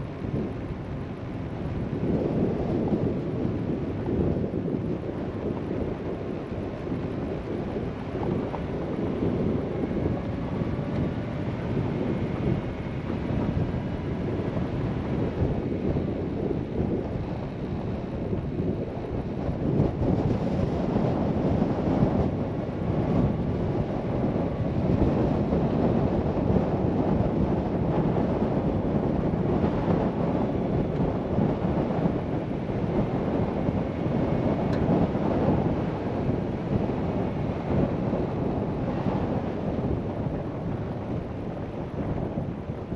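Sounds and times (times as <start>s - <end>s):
vehicle tyres and engine rumble: 0.0s - 42.9s
wind rushing over microphone: 0.0s - 42.9s.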